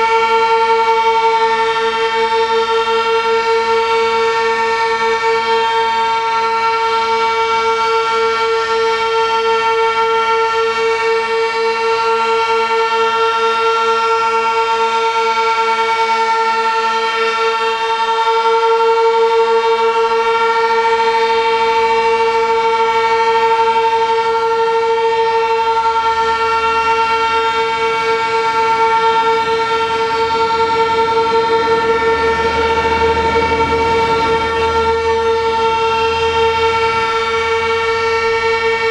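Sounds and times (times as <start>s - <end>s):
warning sirens wailing: 0.0s - 38.9s.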